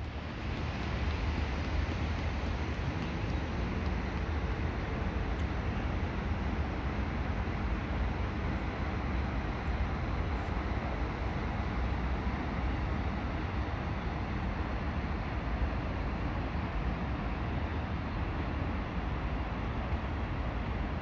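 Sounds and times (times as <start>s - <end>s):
city background rumble: 0.0s - 21.0s.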